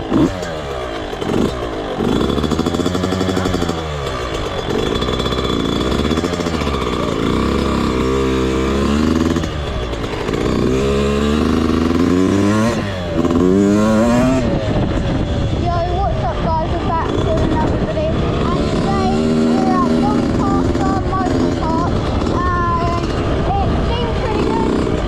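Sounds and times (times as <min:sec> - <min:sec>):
motorbike engine accelerating: 0:00.0 - 0:25.0.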